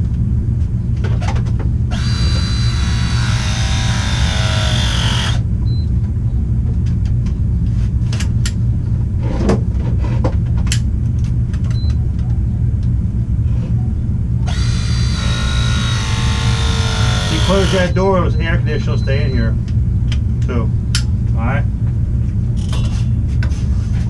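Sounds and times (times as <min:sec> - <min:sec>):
low machine rumble: 0:00.0 - 0:24.0.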